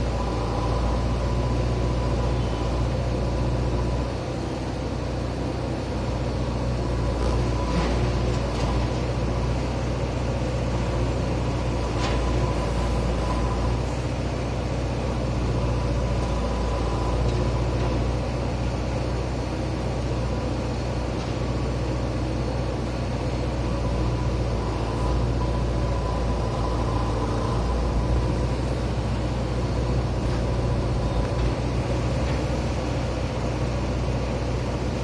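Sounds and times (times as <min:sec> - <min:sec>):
digger diesel engine running: 0:00.0 - 0:35.0.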